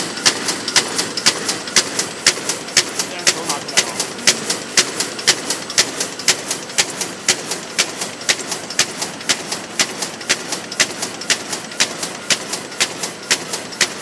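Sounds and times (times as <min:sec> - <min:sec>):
carton machine mechanical clacks: 0:00.0 - 0:14.0
faint machine clicks: 0:00.0 - 0:14.0.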